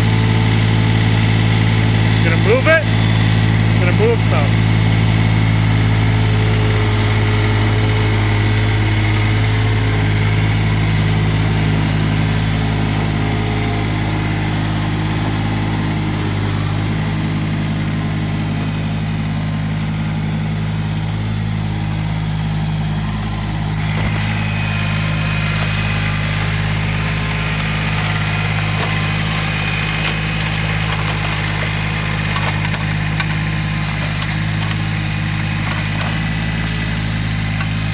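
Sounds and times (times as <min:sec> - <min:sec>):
diesel tractor engine running: 0:00.0 - 0:37.9.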